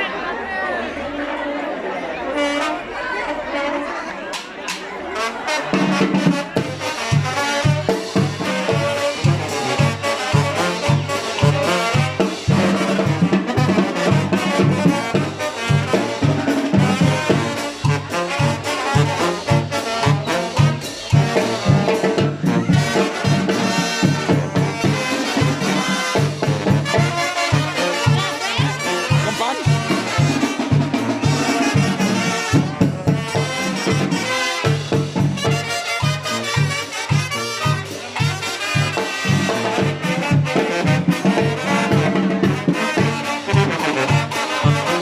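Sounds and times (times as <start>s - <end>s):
trumpets and trombones: 0.0s - 45.0s
drums: 2.3s - 45.0s.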